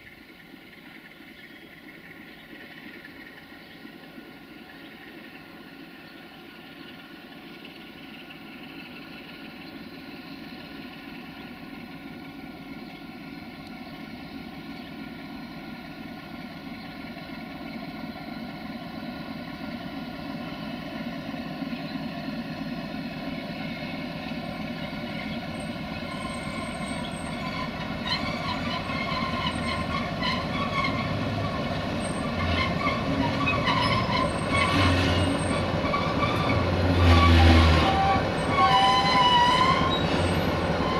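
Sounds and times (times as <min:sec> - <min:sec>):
diesel locomotives running: 0:00.0 - 0:40.9
wheels clicking and squealing on rails: 0:00.0 - 0:40.9.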